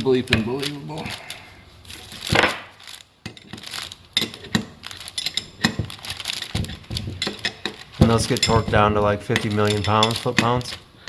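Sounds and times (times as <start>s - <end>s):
metal parts clinking: 0.2s - 10.8s.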